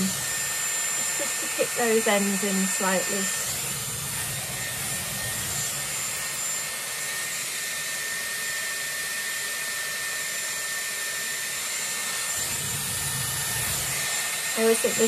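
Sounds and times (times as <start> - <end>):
hair styler air rush and whine: 0.0 - 15.0.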